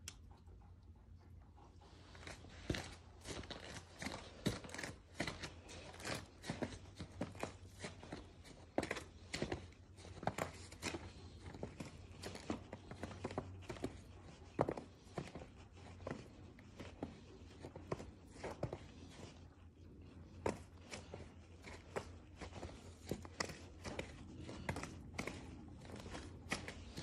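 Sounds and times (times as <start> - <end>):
steady low hum: 0.0 - 27.0
footsteps crunching in snow: 2.6 - 19.4, 20.4 - 27.0.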